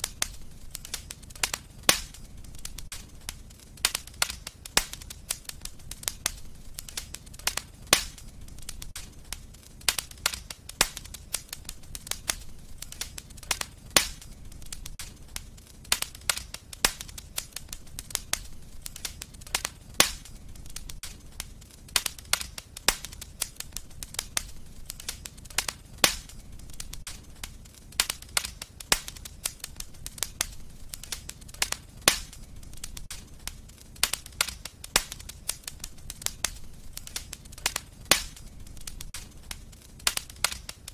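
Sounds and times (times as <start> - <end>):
low rumble of burning: 0.0 - 40.9
wood fire crackling: 0.0 - 40.9.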